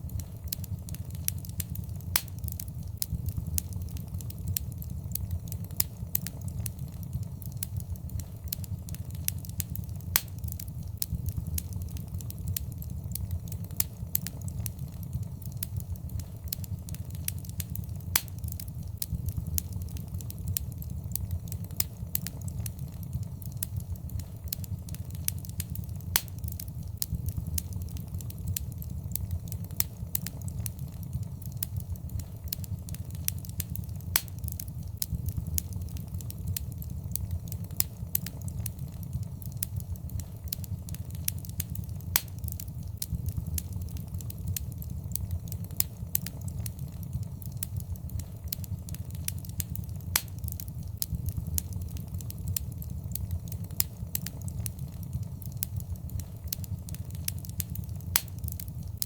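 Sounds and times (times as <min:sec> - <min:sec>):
fire crackling and popping: 0:00.0 - 0:59.0
low steady rumble: 0:00.0 - 0:59.0.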